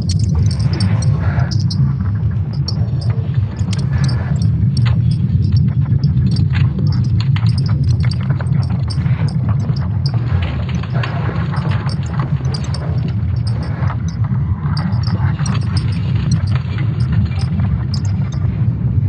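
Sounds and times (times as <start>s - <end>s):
crackles and creaks: 0.0s - 19.0s
deep rumbling: 0.0s - 19.0s.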